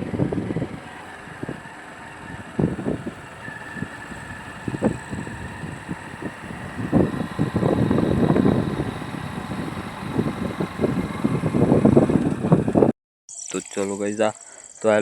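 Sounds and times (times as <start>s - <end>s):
vehicle engine and road rumble: 0.0s - 12.9s.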